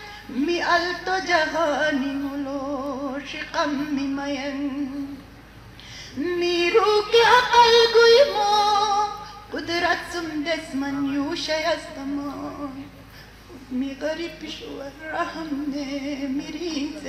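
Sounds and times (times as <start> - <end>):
person singing with vibrato: 0.0 - 5.2, 6.1 - 17.0.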